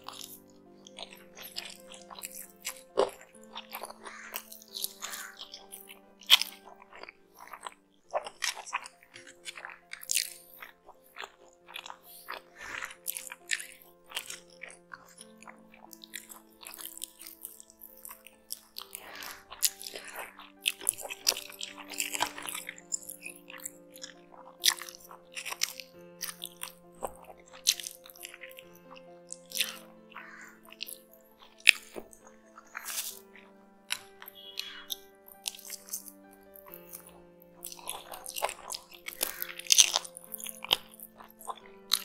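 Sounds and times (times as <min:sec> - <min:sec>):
chewing and crunching: 0:00.0 - 0:42.0
soft background music: 0:00.0 - 0:42.0
wet mouth clicks and smacks: 0:06.4 - 0:33.2, 0:33.9 - 0:42.0.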